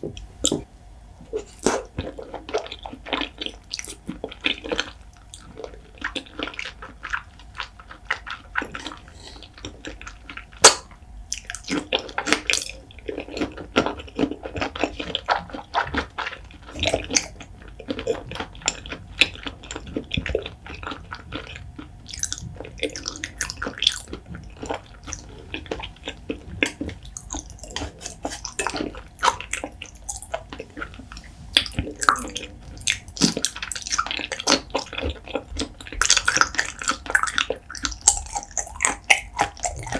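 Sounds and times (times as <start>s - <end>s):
wet chewing and lip smacking: 1.3s - 39.9s.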